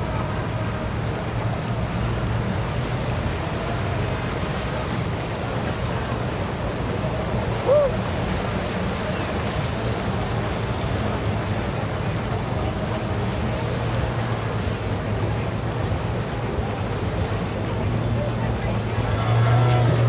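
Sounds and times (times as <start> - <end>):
boats humming: 0.0 - 20.0
water wash: 0.0 - 20.0
wind: 0.0 - 20.0.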